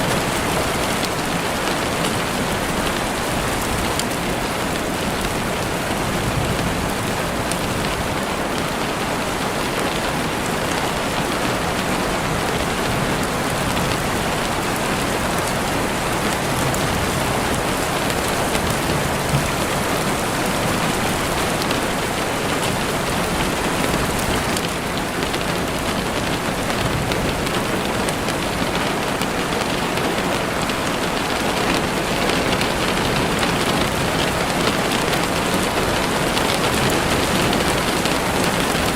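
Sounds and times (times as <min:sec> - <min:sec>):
heavy rain hissing: 0:00.0 - 0:38.9
rain drops tapping: 0:00.0 - 0:38.9.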